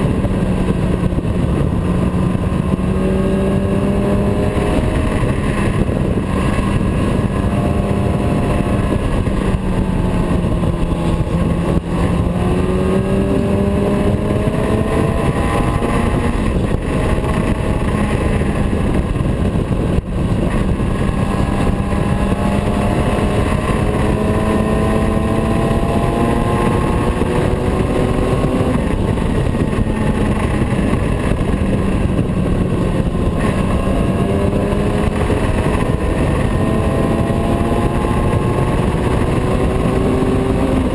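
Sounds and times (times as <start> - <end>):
loud steady rushing noise: 0.0 - 40.9
motorcycle engine running: 0.0 - 40.9.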